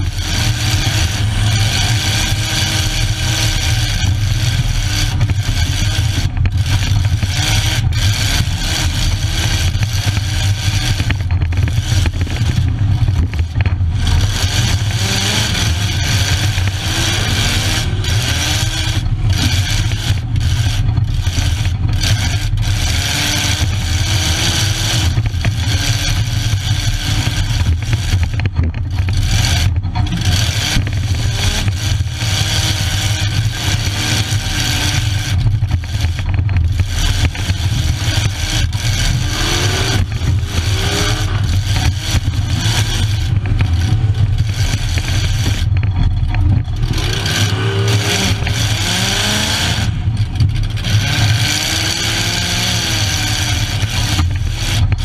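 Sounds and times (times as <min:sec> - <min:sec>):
car engine revving: 0:00.0 - 0:55.0
scraping noise: 0:00.0 - 0:55.0.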